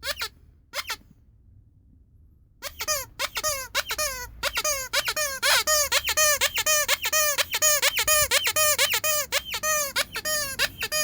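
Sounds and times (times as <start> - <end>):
squeaky dog toy: 0.0 - 1.1, 2.6 - 11.0.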